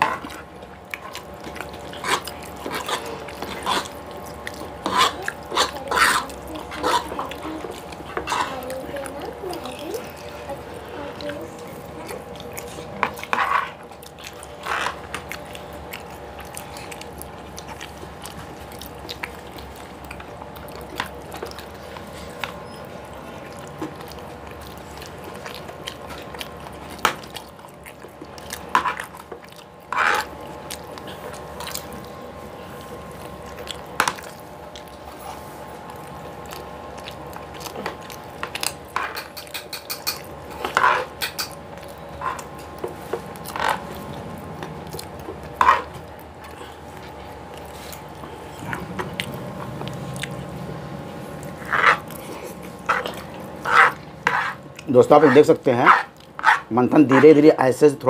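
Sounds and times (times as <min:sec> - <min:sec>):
faint steady hum: 0:00.0 - 0:58.0
people chewing: 0:00.0 - 0:58.0.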